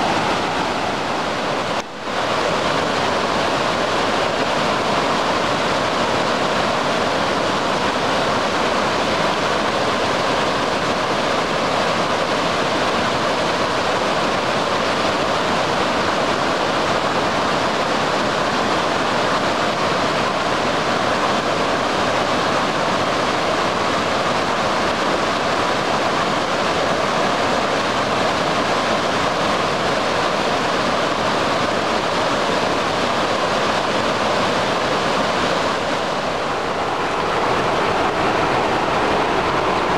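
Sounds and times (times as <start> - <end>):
floodwater rushing over rapids: 0.0 - 39.9.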